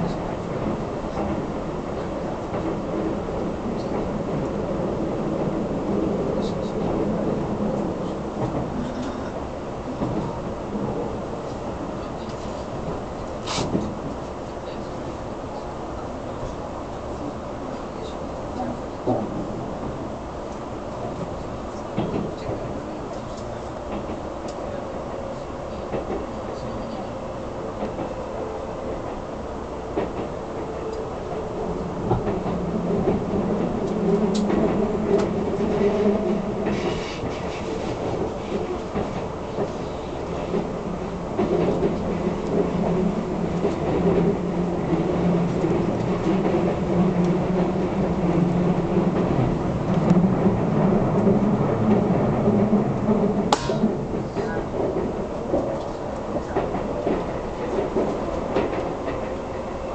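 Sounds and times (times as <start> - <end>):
train rumble and rail noise: 0.0 - 59.9.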